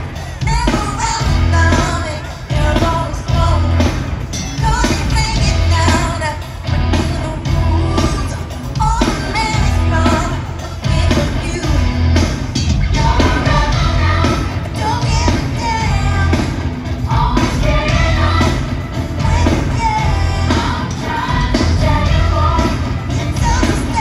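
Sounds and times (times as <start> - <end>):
live rock band with heavy bass: 0.0 - 24.0
woman singing: 0.2 - 12.2, 12.9 - 24.0.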